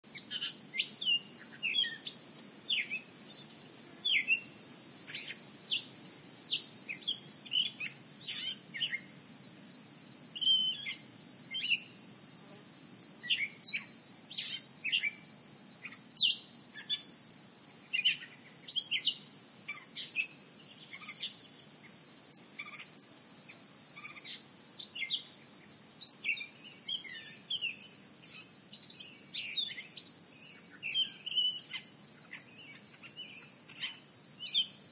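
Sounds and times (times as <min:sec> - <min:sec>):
bird chirps: 0:00.1 - 0:09.4, 0:10.4 - 0:11.9, 0:13.2 - 0:21.5, 0:24.0 - 0:25.3, 0:26.0 - 0:34.8.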